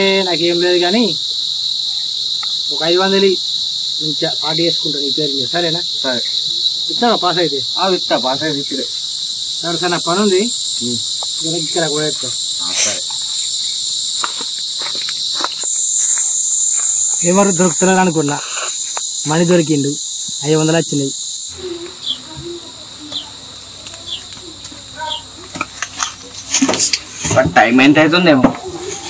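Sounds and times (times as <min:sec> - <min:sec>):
insects droning shrilly: 0:00.0 - 0:29.0.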